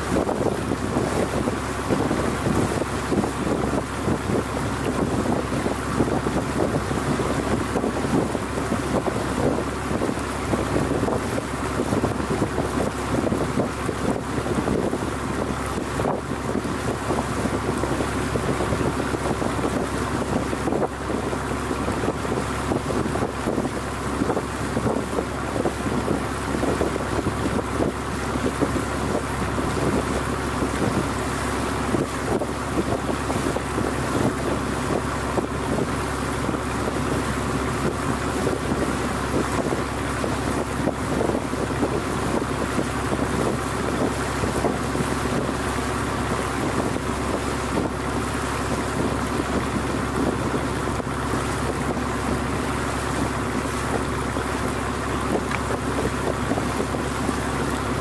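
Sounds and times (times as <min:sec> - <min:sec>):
boat engine droning: 0:00.0 - 0:58.0
wind buffeting microphone: 0:00.0 - 0:58.0.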